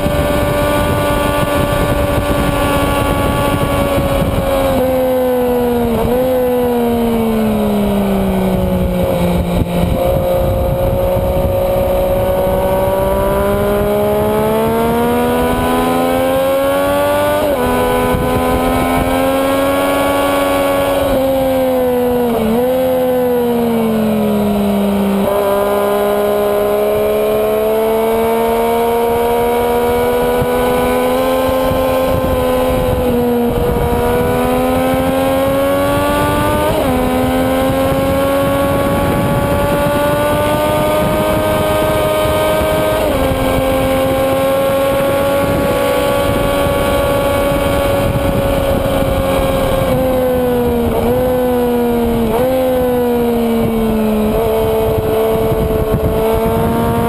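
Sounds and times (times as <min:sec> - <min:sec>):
wind rushing: 0:00.0 - 0:22.6, 0:25.4 - 0:57.0
motorcycle engine revving: 0:00.0 - 0:57.0.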